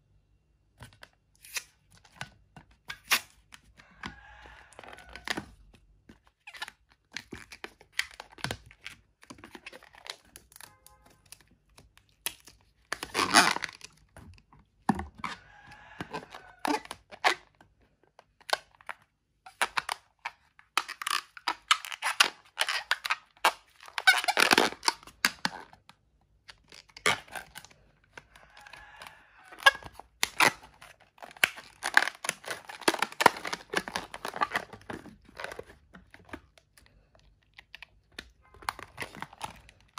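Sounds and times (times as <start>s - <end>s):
rubbery rasps and crackles: 0.8s - 39.9s
balloon squeaking and creaking: 2.8s - 11.4s, 12.8s - 17.6s, 19.4s - 39.9s.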